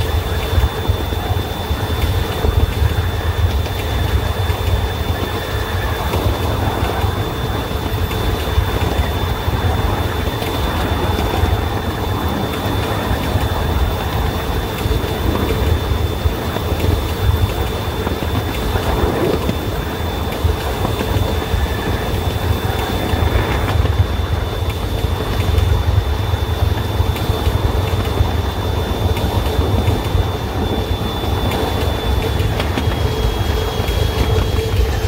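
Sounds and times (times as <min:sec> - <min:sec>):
running gear rumbling on rails: 0:00.0 - 0:35.0
thin high whine: 0:00.0 - 0:35.0.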